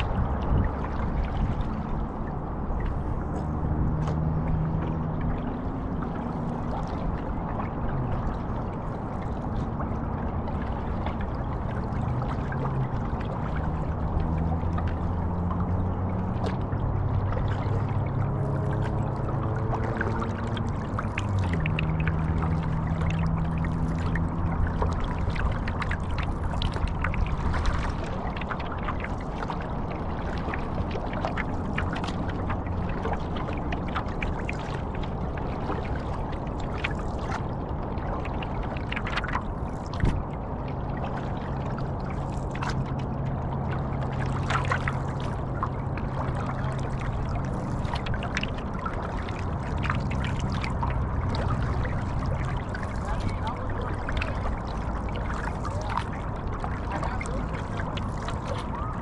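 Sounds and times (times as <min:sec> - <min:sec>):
low steady hum: 0:00.0 - 0:59.0
paddle splashing in water: 0:00.0 - 0:59.0.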